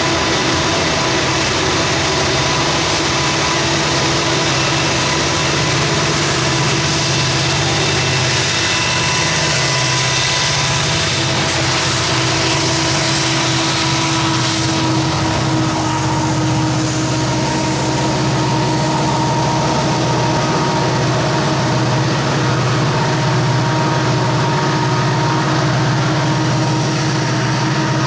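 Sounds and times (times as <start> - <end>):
diesel locomotives under load: 0.0 - 28.0
wheels hissing on rail: 0.0 - 28.0.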